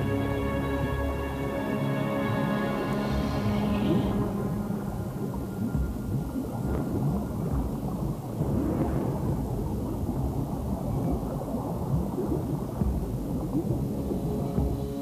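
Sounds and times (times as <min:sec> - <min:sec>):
bubbling: 0:00.0 - 0:15.0
underwater rumble: 0:00.0 - 0:15.0.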